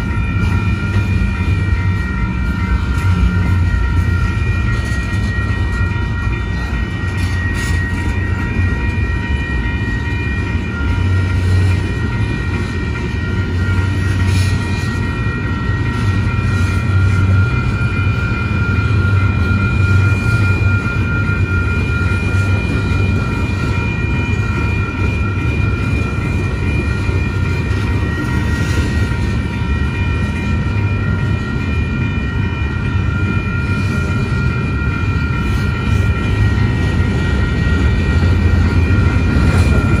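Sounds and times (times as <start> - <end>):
high ringing tones: 0.0 - 40.0
train car clanks: 0.0 - 40.0
train wheels rumbling on rail: 0.0 - 40.0.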